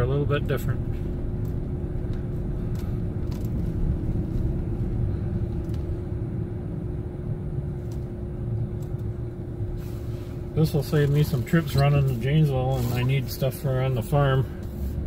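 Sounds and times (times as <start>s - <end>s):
constant hum: 0.0s - 15.0s
pickup engine and tyres rumbling: 0.0s - 15.0s.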